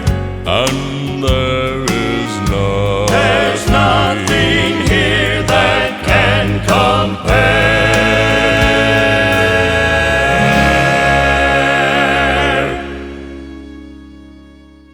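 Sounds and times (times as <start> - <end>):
gospel voices singing: 0.4 - 14.1.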